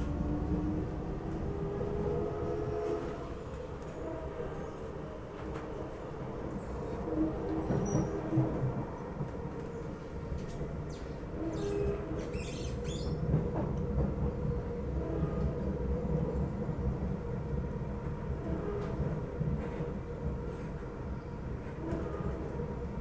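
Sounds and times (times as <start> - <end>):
train wheels rumbling: 0.0 - 23.0.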